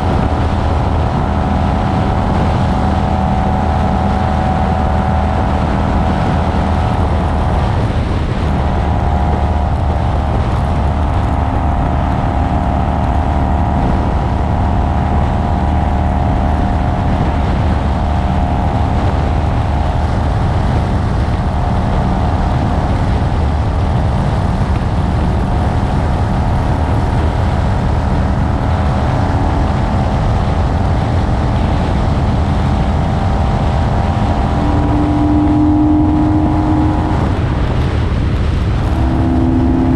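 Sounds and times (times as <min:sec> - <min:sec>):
motorcycle engine cruising: 0:00.0 - 0:39.9
road noise: 0:00.0 - 0:39.9
wind noise: 0:00.0 - 0:39.9.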